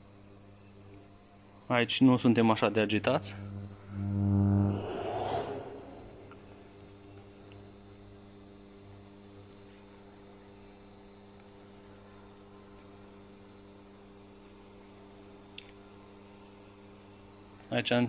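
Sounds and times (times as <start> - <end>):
induction hob electrical hum: 0.0 - 18.0.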